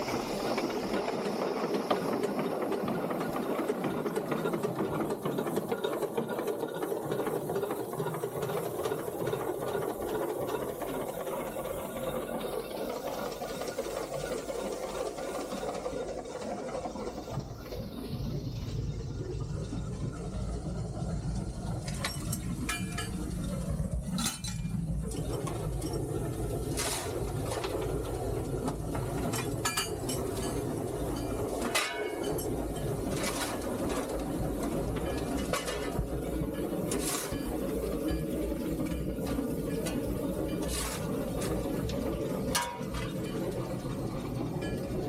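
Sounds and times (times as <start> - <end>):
steam locomotive low rumble: 0.0 - 45.0.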